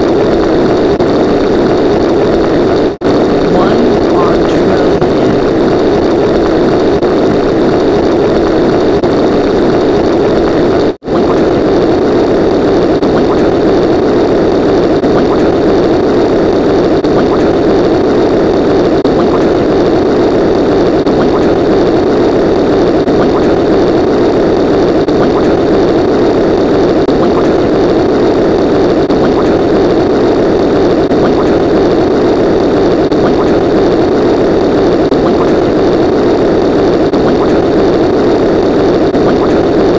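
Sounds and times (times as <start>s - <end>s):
loud engine-like drone: 0.0s - 39.9s.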